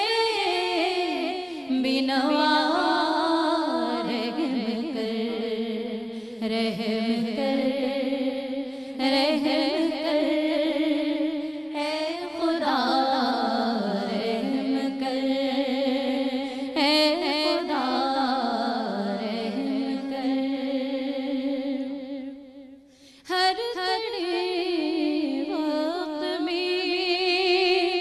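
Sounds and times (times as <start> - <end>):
woman singing devotional song: 0.0 - 28.0.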